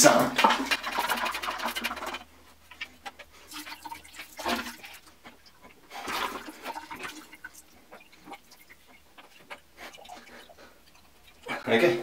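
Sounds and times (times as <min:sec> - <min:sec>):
water sloshing and splashing: 0:00.4 - 0:11.6.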